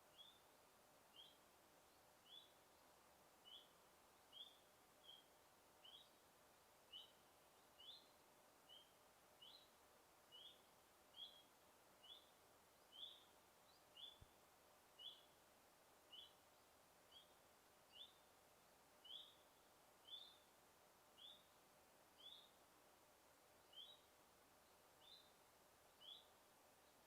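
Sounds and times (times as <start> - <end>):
faint forest background hiss: 0.0 - 27.0.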